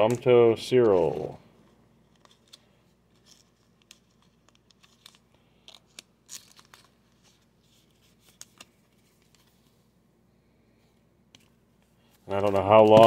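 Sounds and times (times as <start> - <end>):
plastic card sleeve rustling: 0.0 - 9.9, 11.3 - 13.0.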